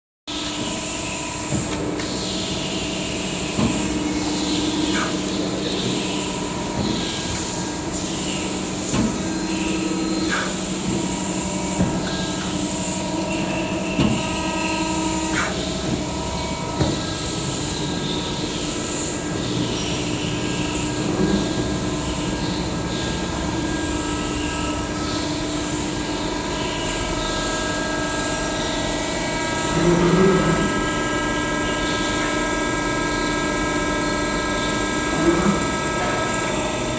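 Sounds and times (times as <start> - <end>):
hydraulic pump hum with hiss: 0.3 - 36.9.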